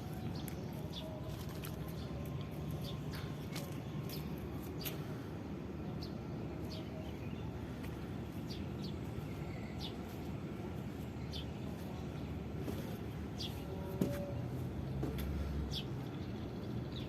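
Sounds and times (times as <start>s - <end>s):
small birds chirping: 0.0s - 14.4s, 15.0s - 17.0s
low outdoor rumble: 0.0s - 17.0s.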